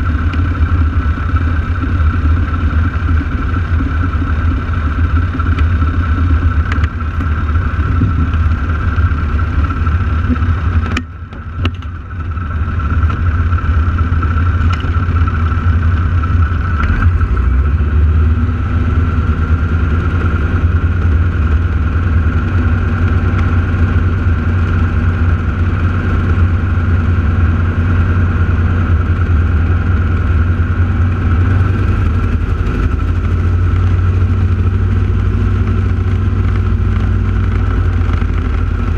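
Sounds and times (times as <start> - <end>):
piston aircraft engines droning: 0.0 - 38.9.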